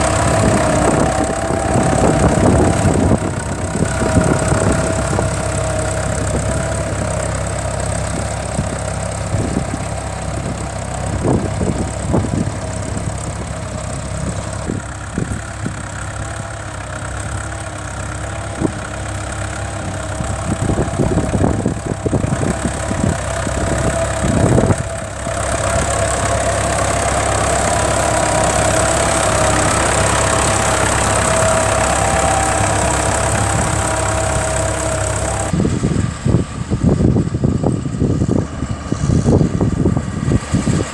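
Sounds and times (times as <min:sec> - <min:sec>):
engine idling: 0:00.0 - 0:35.7.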